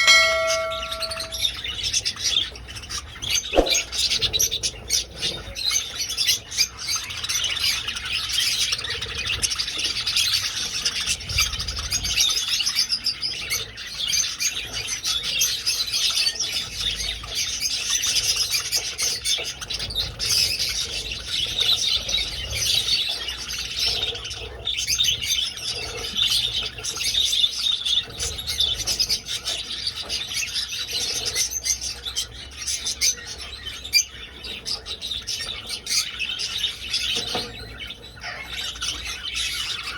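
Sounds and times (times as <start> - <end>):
budgies chattering and chirping: 2.6 - 39.9.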